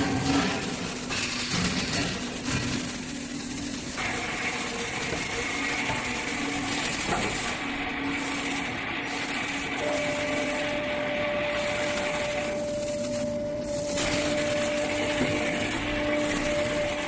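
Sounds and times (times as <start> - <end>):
machine whirring and hissing: 0.0 - 17.0
thin high whine: 0.0 - 17.0.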